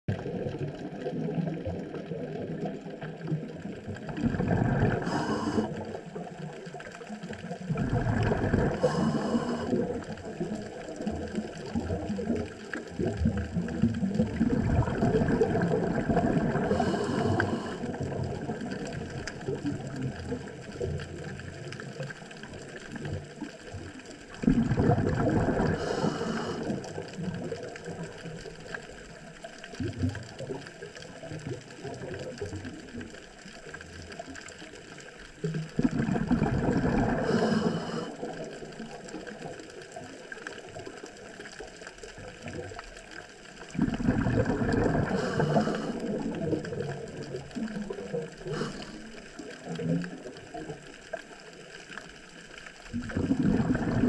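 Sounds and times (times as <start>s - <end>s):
steady water rumble: 0.0s - 54.0s
exhaled bubbles from regulator: 0.1s - 34.1s, 35.3s - 51.3s, 52.9s - 54.0s.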